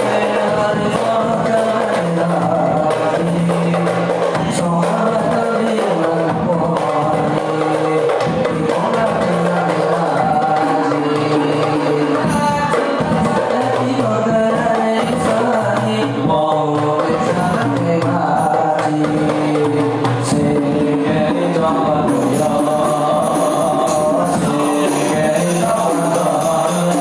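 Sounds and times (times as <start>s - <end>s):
frame drums beating: 0.0s - 27.0s
person singing: 0.0s - 27.0s.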